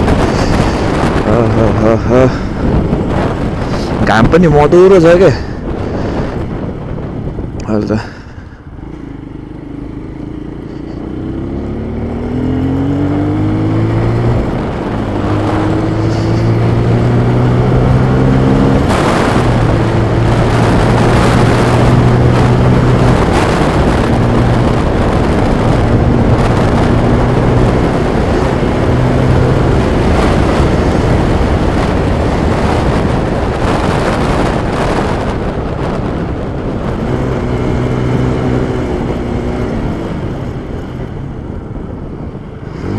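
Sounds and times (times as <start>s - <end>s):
motorcycle engine accelerating: 0.0s - 4.0s, 4.6s - 42.9s
wind rushing over microphone: 0.0s - 42.9s.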